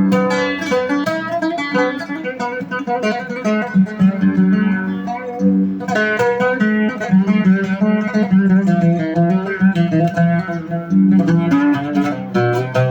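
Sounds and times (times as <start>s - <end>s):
oud melody: 0.0s - 12.9s.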